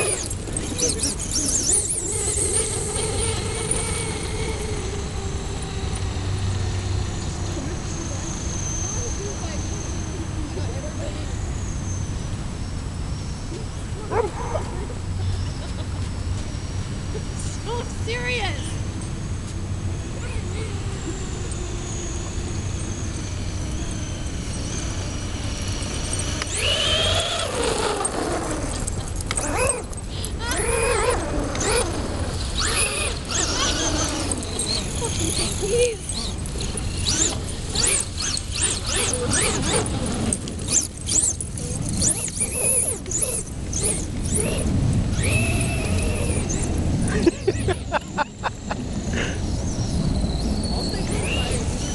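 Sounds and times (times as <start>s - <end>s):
rc truck motor whining: 0.0s - 13.8s, 15.1s - 51.9s.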